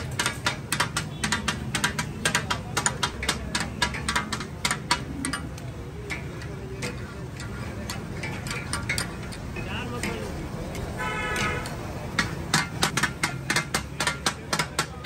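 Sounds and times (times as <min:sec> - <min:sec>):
metal utensils clinking on griddle: 0:00.0 - 0:15.0.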